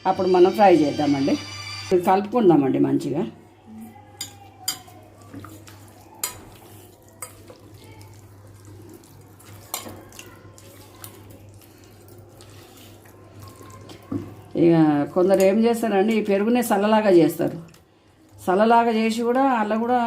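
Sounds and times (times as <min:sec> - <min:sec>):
wet stirring of marinade: 0:03.4 - 0:20.0.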